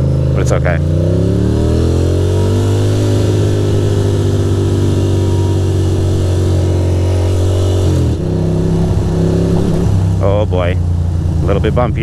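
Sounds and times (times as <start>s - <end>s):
motorcycle engine revving: 0.0s - 12.0s
wind and road noise: 0.0s - 12.0s.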